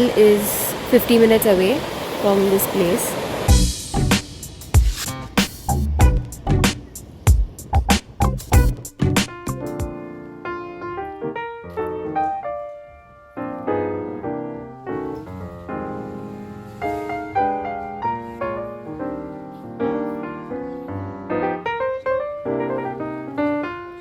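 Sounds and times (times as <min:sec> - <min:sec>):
solo piano melody: 0:03.5 - 0:24.0.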